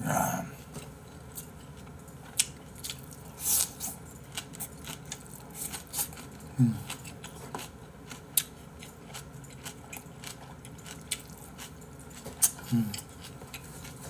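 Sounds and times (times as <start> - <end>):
person chewing food: 0.6 - 14.0.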